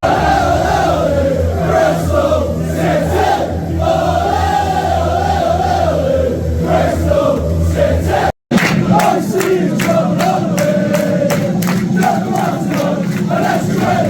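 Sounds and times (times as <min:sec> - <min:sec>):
crowd singing a chant: 0:00.0 - 0:14.0.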